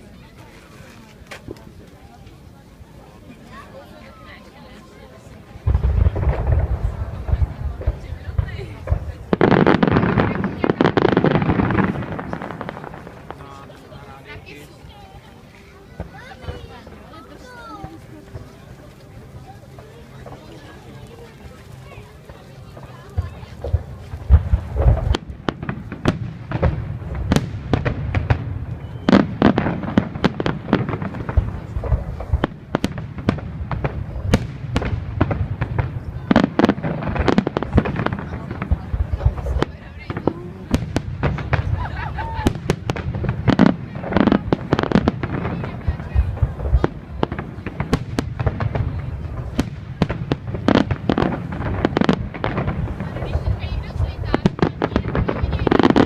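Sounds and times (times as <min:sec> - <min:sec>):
fireworks cracks and bangs: 0:05.0 - 0:56.0.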